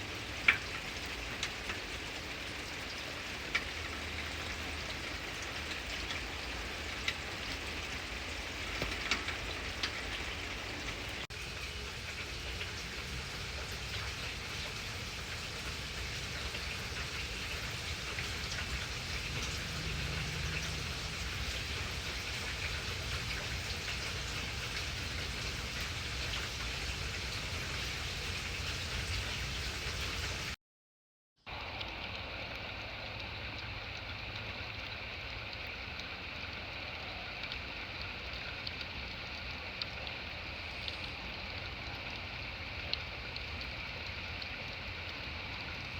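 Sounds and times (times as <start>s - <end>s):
steady rain: 0.0s - 30.6s, 31.5s - 45.9s.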